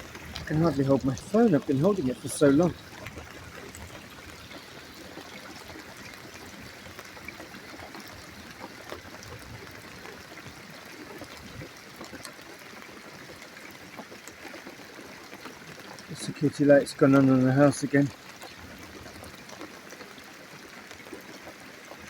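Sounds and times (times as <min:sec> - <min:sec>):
steady rain hissing: 0:00.0 - 0:22.0
water dripping ticks: 0:00.0 - 0:22.0.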